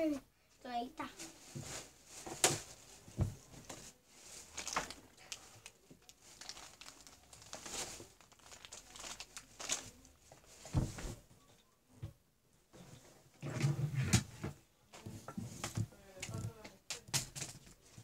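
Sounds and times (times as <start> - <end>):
rustling and crinkling: 1.0 - 11.4, 12.7 - 18.0.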